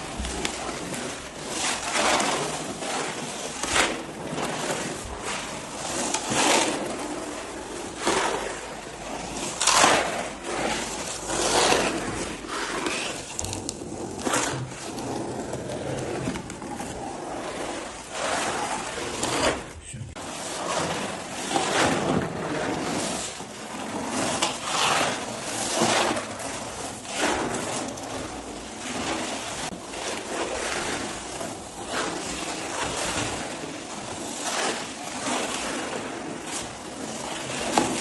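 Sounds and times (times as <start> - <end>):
rough rubbing strokes: 0.0 - 38.0.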